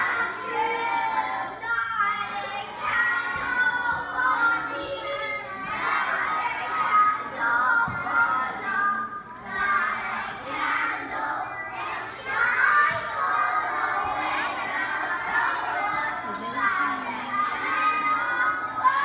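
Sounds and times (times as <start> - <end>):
young children singing together: 0.0 - 19.0.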